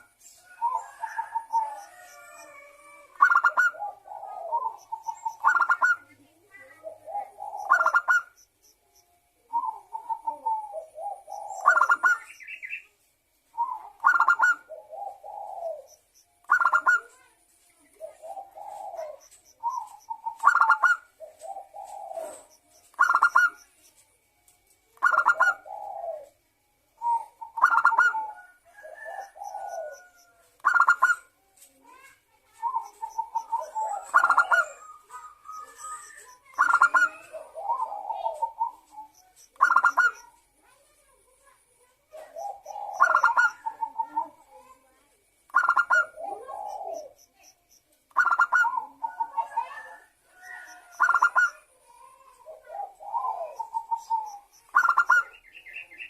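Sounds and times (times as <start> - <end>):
dove cooing: 0.0 - 8.4, 9.4 - 12.8, 13.5 - 23.7, 25.0 - 40.6, 42.1 - 47.2, 48.1 - 56.0.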